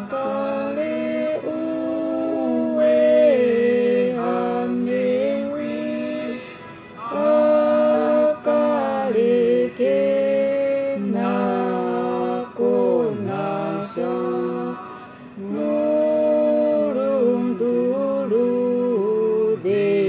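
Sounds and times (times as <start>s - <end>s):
man and woman singing in harmony: 0.0s - 20.0s.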